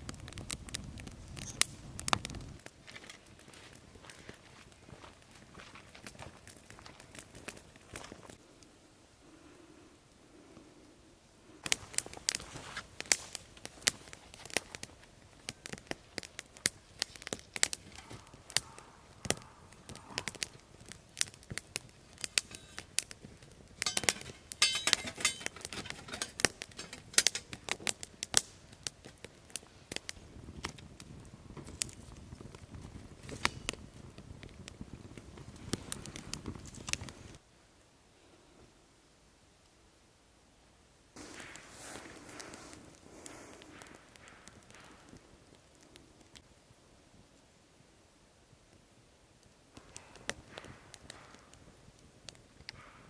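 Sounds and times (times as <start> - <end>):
sharp pops of fire: 0.0 - 8.4, 11.6 - 37.4, 41.2 - 46.6, 49.4 - 53.0
wood fire crackling: 0.0 - 37.9, 39.3 - 53.0.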